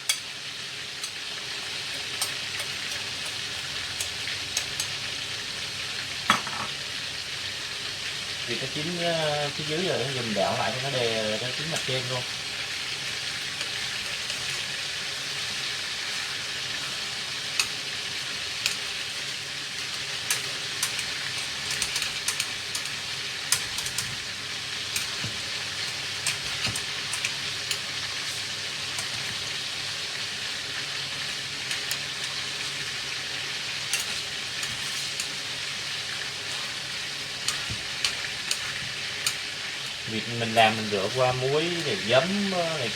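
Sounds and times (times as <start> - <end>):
meat frying in oil: 0.0 - 42.9.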